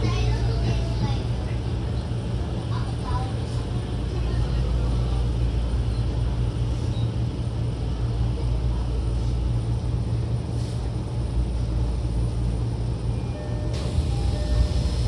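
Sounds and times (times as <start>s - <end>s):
train car hum: 0.0s - 15.0s.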